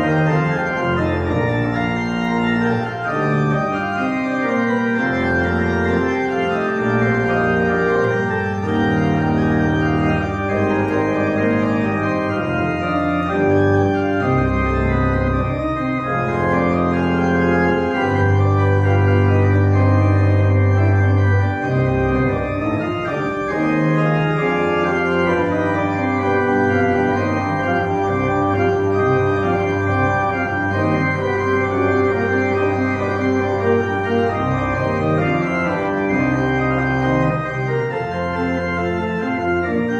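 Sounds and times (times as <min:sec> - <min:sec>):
church organ chords: 0:00.0 - 0:39.9.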